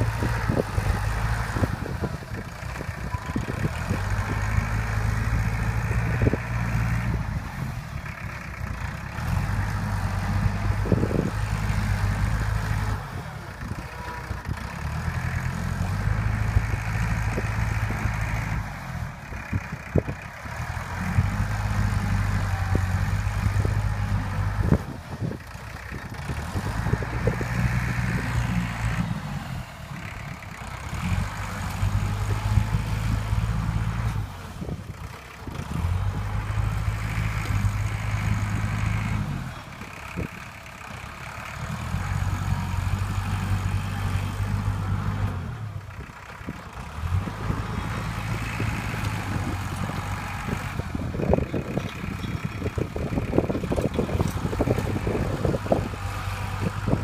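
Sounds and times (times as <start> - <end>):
heavy diesel engine labouring: 0.0 - 57.0.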